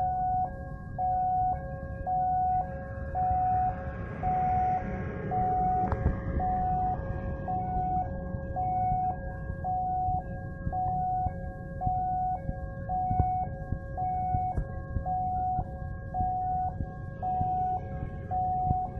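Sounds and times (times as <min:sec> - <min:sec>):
continuous low rumble: 0:00.0 - 0:18.9
level crossing two-tone alarm: 0:00.0 - 0:18.9.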